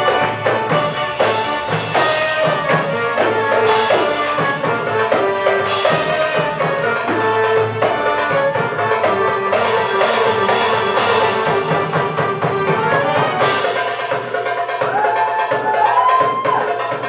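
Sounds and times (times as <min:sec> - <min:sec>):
keyboard melody: 0:00.0 - 0:15.6
steady percussion rhythm: 0:00.0 - 0:17.0.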